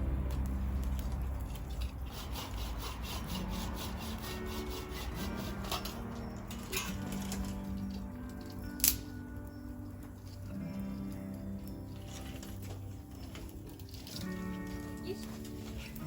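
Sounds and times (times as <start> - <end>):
rhythmic scraping strokes: 0.0 - 16.0
soft background music: 0.0 - 16.0.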